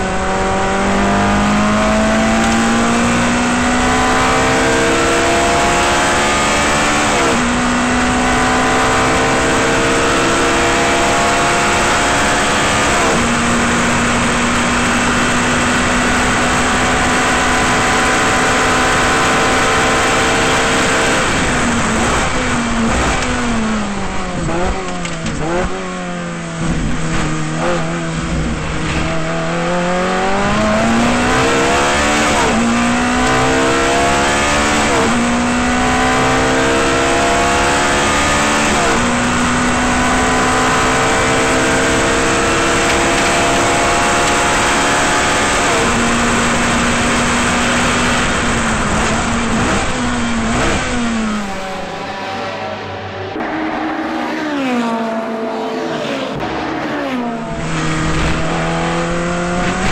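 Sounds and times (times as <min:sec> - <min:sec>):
engine rev blips on downshifts: 0:00.0 - 0:59.9
race car engine accelerating: 0:00.0 - 0:59.9.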